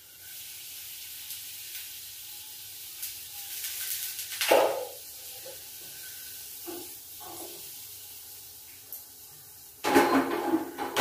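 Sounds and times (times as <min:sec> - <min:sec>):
steam escaping: 0:00.0 - 0:09.8
food sizzling in a pan: 0:00.0 - 0:10.8.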